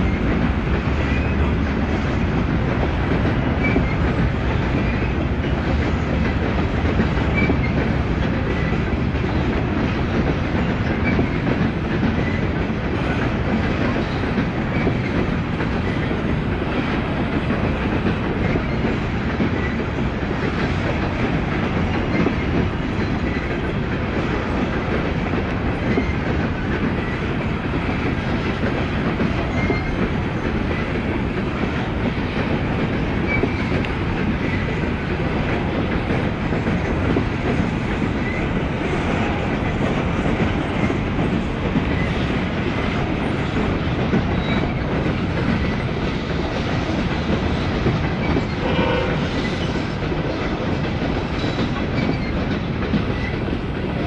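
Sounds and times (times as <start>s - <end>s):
diesel locomotive engines: 0.0s - 54.0s
train wheels clicking on rails: 0.0s - 54.0s.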